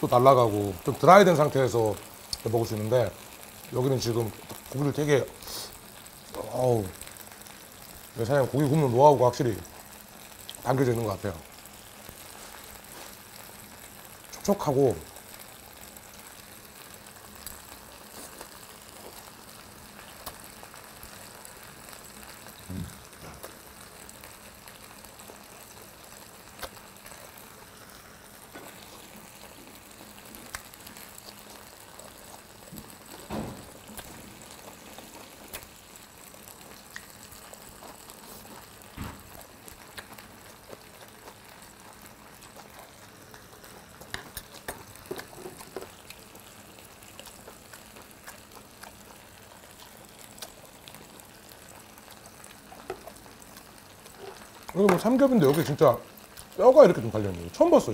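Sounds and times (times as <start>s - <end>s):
meat sizzling on iron plate: 0.0s - 57.9s.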